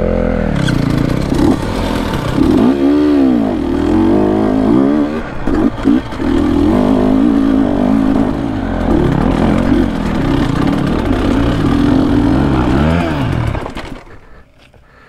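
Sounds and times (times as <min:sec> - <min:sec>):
dirt bike engine running hard: 0:00.0 - 0:14.5.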